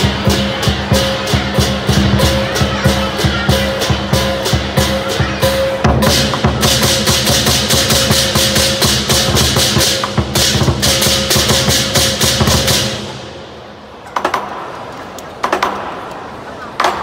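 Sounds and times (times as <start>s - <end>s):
large drum beating: 0.0s - 14.7s
cymbals clashing: 0.0s - 14.9s.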